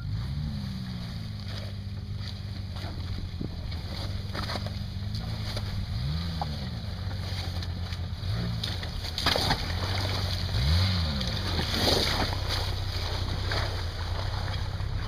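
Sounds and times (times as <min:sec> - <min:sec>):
buggy engine revving under load: 0:00.0 - 0:15.0.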